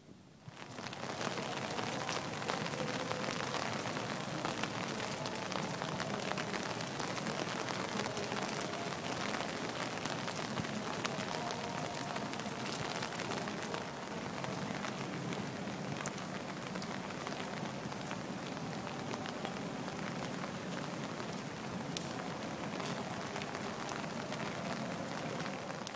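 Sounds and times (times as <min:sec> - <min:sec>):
rain on wet paving: 0:00.4 - 0:25.9.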